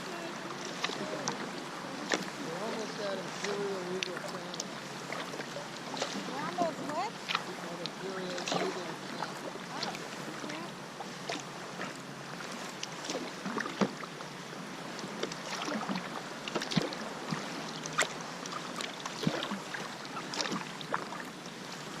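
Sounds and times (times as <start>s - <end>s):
paddle splashing and dripping: 0.0s - 22.0s
steady watery hiss: 0.0s - 22.0s.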